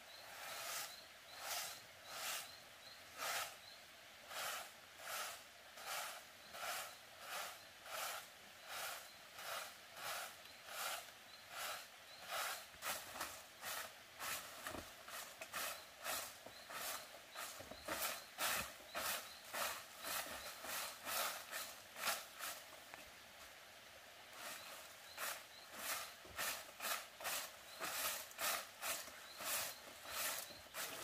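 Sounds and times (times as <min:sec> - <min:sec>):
twig broom sweeping dirt: 0:00.2 - 0:23.6, 0:24.3 - 0:31.0.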